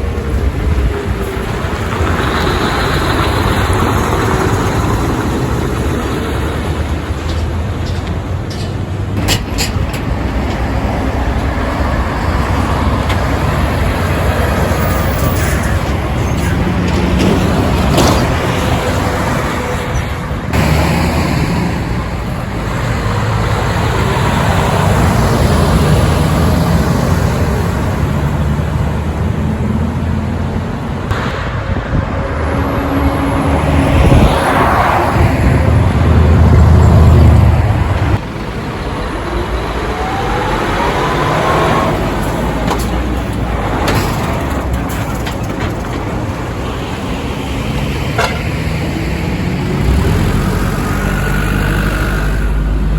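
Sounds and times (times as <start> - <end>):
diesel trucks driving past: 0.0 - 52.9.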